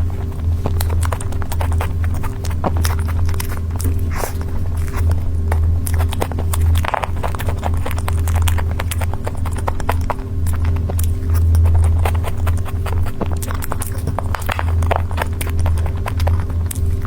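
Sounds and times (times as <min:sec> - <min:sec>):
chewing with wet mouth clicks: 0:00.0 - 0:17.0
steady low hum: 0:00.0 - 0:17.0.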